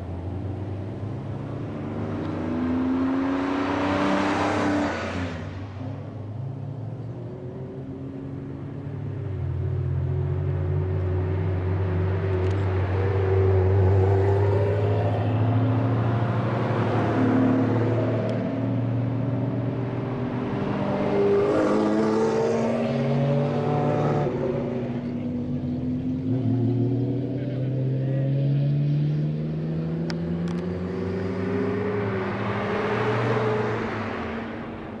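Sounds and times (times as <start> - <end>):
road noise rushing: 0.0 - 35.0.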